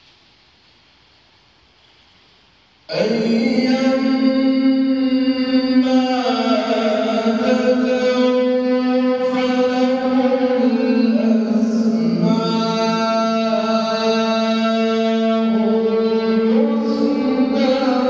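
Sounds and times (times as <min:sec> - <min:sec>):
voice chanting recitation: 0:02.9 - 0:18.0.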